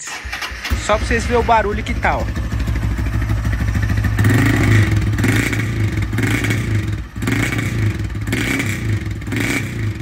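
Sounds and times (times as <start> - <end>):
motorcycle engine revving: 0.1 - 10.0.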